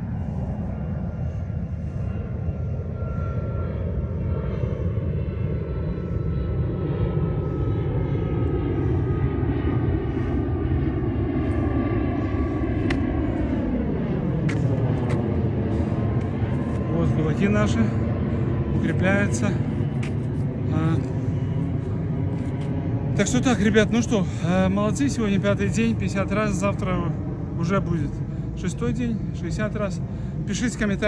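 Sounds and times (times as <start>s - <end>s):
aircraft engine rumble overhead: 0.0s - 31.0s.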